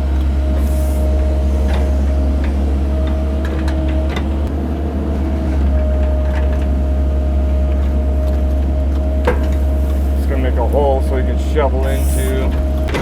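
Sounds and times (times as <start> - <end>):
excavator diesel engine running: 0.0 - 13.0
hydraulic whine: 0.0 - 13.0.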